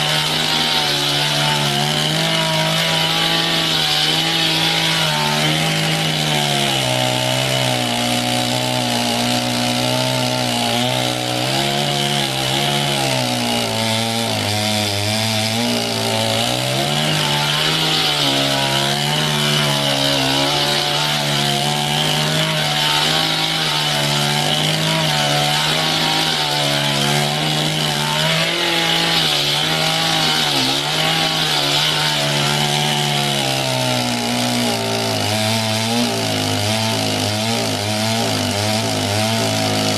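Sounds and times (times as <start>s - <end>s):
chainsaw sawing a log: 0.0s - 39.9s.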